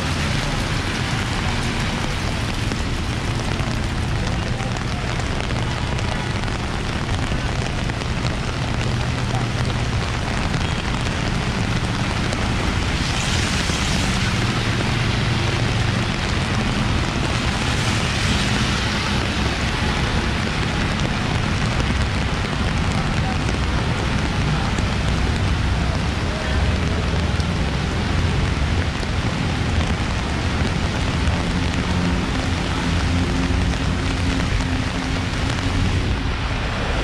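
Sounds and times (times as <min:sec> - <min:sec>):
tyres running through water: 0:00.0 - 0:36.5
car engines rumbling: 0:00.0 - 0:37.0
heavy rain on wet pavement: 0:00.0 - 0:37.0.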